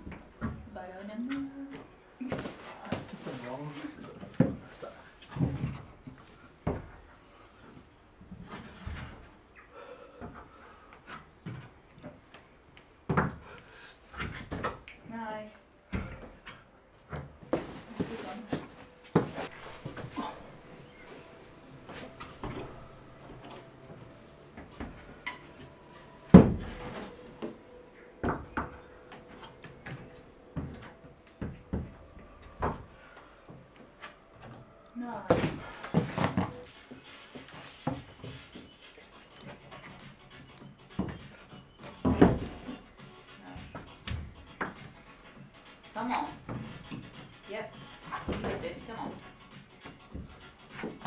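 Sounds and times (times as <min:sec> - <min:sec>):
hands and feet thudding on wooden holds: 0:00.0 - 0:51.0.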